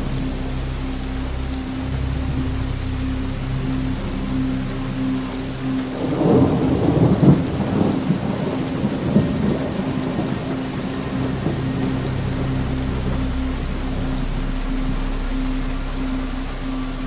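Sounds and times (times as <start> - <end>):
steady rainfall: 0.0 - 17.0
thunder rumbling: 0.0 - 17.0.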